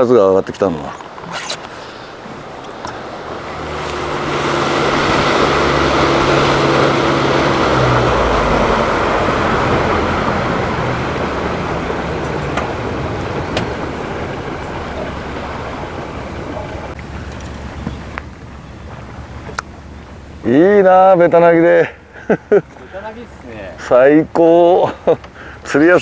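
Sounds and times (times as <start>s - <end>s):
water rushing along hull: 0.0s - 26.0s
boat engine running: 0.1s - 26.0s.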